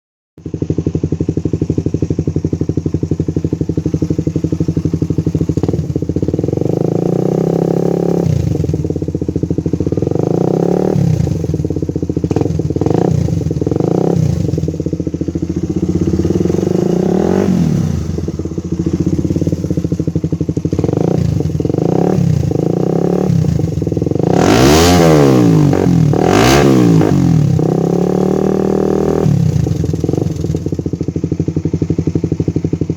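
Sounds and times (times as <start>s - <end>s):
motorcycle engine idling and revving: 0.4s - 32.9s.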